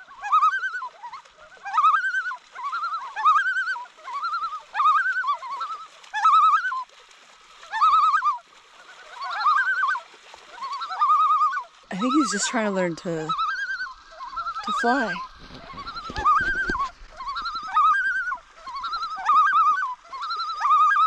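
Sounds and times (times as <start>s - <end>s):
loons tremolo calls: 0.0s - 6.8s, 10.6s - 21.0s.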